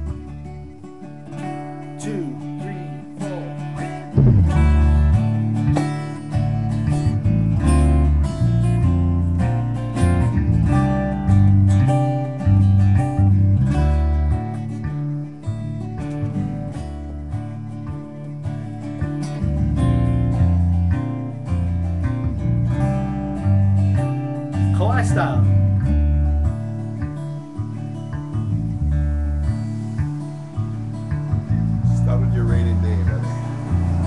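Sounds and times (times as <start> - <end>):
acoustic guitar strumming: 0.0 - 34.0
low bass line: 4.1 - 34.0.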